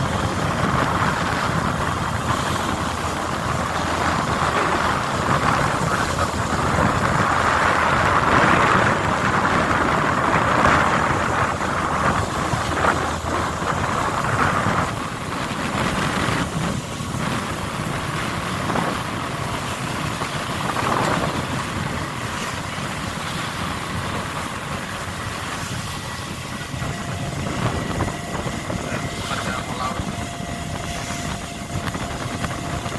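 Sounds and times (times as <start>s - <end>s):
boat engine and machinery noise: 0.0s - 32.9s.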